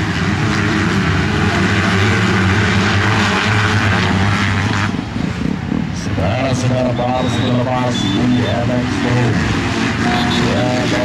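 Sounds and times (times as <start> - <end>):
motocross bike engines high revs: 0.0 - 11.0.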